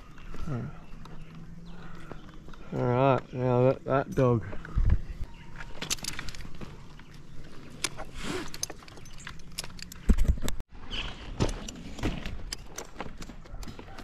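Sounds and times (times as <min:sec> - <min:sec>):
climbing gear clicks and clinks: 0:00.0 - 0:10.6, 0:11.4 - 0:14.0.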